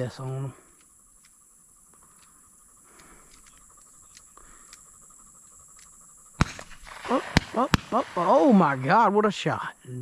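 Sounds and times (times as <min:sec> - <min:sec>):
fast insect trill: 0:00.0 - 0:10.0
high insect drone: 0:00.0 - 0:10.0.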